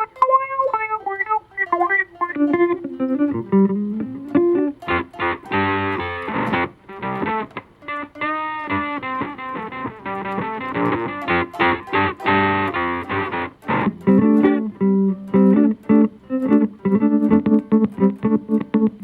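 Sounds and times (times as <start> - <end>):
electric guitar with effects: 0.0 - 19.0.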